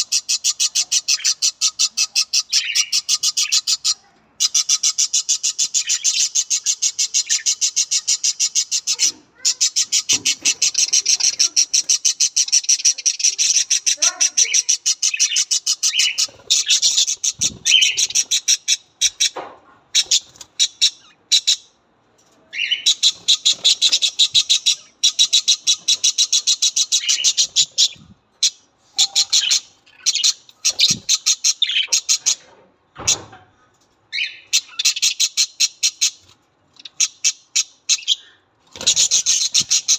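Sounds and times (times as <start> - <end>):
budgerigar chirping: 0.0 - 21.7, 22.6 - 32.4, 34.1 - 36.2, 38.8 - 39.9.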